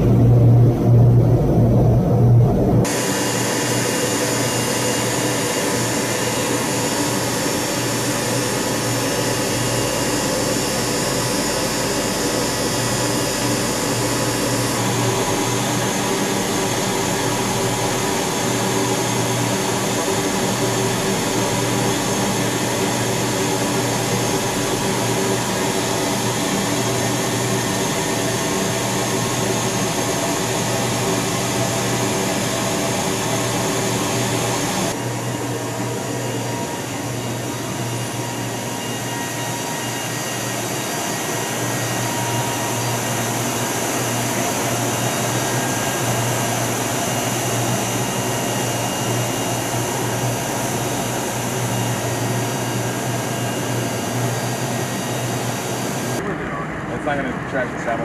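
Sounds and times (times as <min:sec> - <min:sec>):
aircraft turbine engines whining: 0:00.0 - 0:58.0.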